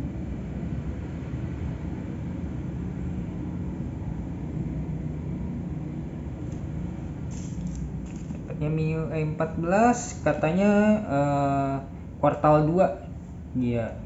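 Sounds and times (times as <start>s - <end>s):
low rumble of background noise: 0.0s - 14.0s.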